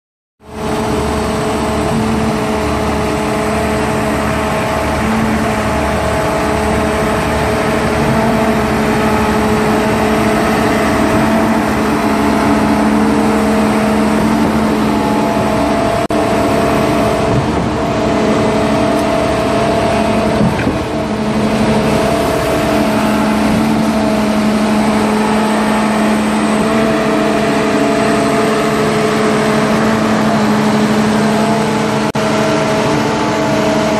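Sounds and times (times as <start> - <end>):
concrete pump running: 0.4 - 33.9
heavy truck engine running: 0.4 - 33.9.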